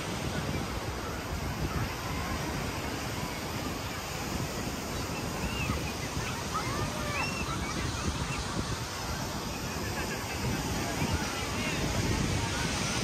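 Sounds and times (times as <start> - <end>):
ocean surf: 0.0 - 13.0
wind on microphone: 0.0 - 13.0.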